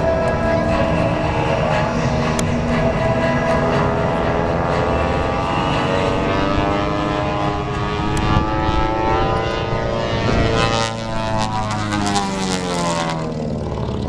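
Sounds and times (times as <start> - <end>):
twin radial aircraft engines droning: 0.0 - 14.0.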